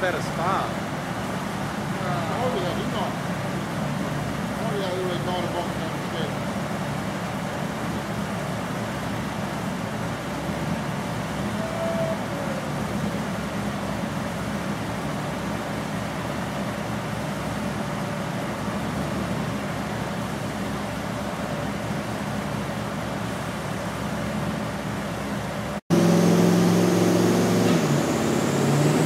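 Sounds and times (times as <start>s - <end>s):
car engine idling: 0.0s - 26.6s
fan hum: 0.0s - 29.0s.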